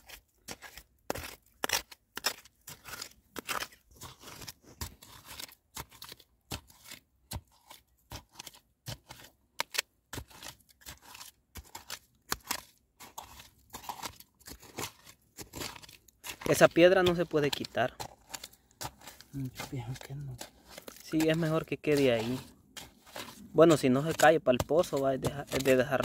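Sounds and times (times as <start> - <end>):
hand scooping wet mud: 0.0 - 26.0.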